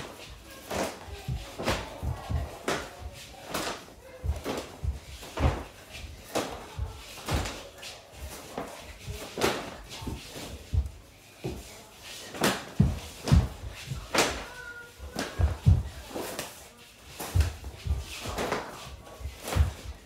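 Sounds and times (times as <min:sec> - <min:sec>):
feet thudding on floor: 0:00.0 - 0:20.0.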